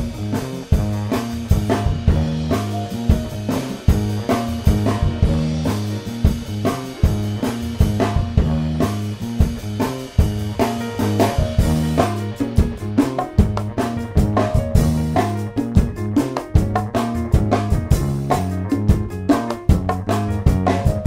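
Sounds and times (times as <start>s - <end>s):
instrumental music with guitar and drums: 0.0s - 21.0s.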